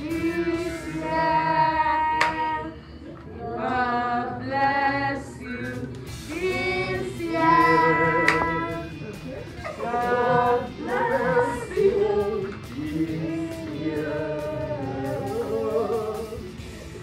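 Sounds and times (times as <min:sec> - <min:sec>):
voices singing together: 0:00.0 - 0:17.0.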